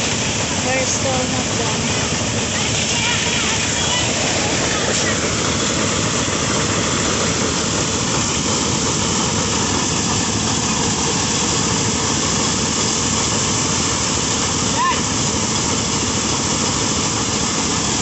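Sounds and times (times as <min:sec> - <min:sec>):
threshing machine engine drone: 0:00.0 - 0:18.0.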